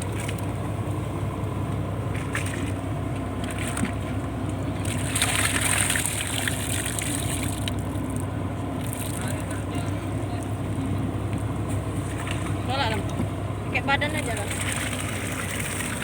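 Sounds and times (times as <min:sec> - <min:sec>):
boat engine running: 0:00.0 - 0:16.0
water rushing: 0:02.1 - 0:11.2, 0:11.9 - 0:16.0.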